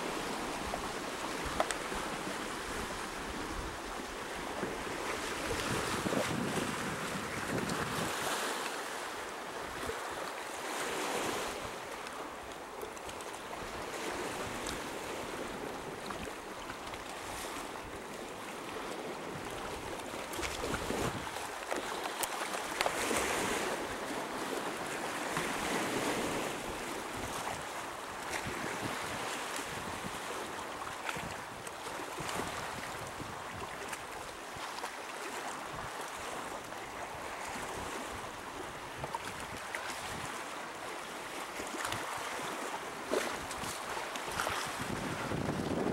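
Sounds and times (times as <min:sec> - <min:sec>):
sea waves washing on shore: 0:00.0 - 0:45.9.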